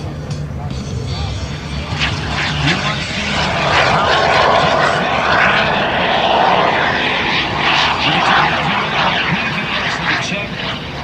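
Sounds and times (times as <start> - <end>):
jet engine rushing noise: 1.5 - 11.0.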